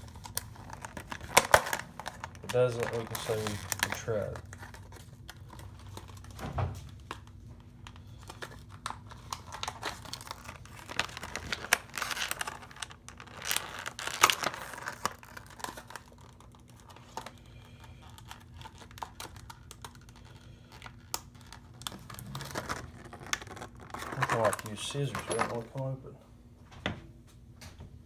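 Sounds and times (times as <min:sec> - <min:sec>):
packaging crinkling and crackling: 0:00.0 - 0:26.0.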